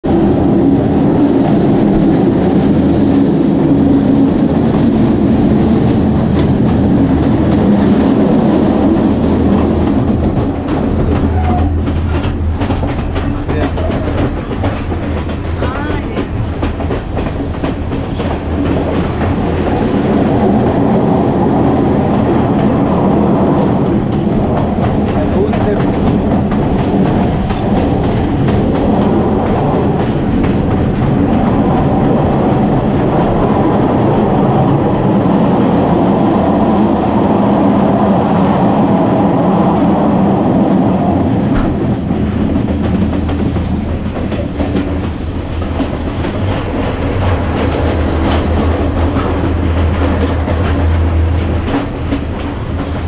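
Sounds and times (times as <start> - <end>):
train rumbling: 0.0 - 53.0
wheels clacking over rail joints: 4.4 - 35.4, 41.5 - 53.0.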